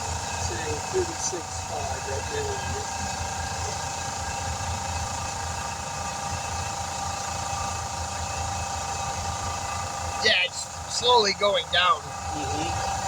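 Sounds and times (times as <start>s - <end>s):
steady engine hum: 0.0s - 13.0s
wheel balancer spinning tire: 0.0s - 13.0s.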